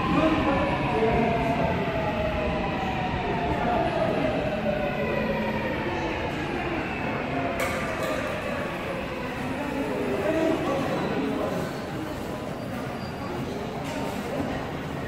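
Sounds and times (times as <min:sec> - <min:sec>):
subway train whining as it slows: 0:00.0 - 0:15.0.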